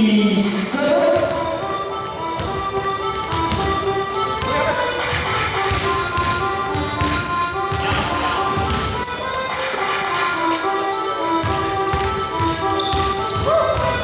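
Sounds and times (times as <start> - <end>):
background music: 0.0 - 14.0
sneakers squeaking: 0.0 - 14.0
basketball bouncing on floor: 1.1 - 14.0.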